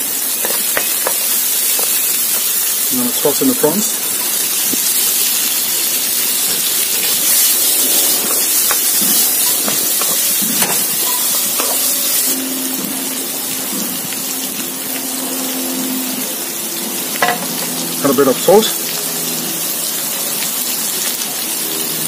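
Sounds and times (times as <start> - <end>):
prawns sizzling in hot oil: 0.0 - 22.0.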